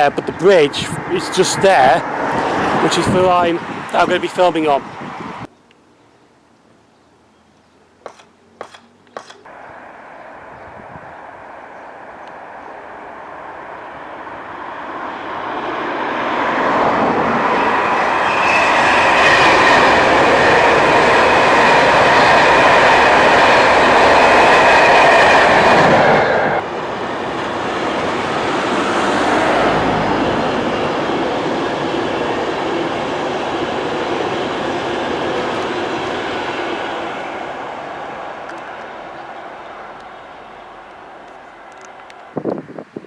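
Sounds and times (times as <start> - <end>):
train passing at speed: 0.0 - 5.5, 9.4 - 43.0.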